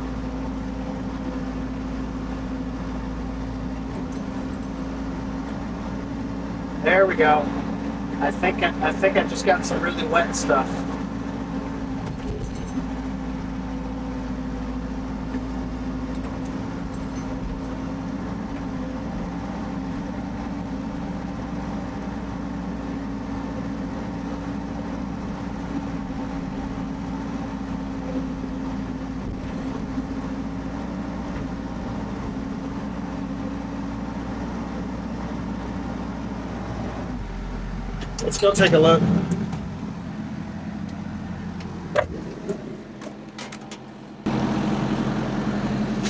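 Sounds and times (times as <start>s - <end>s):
diesel engine running steadily: 0.0s - 46.0s.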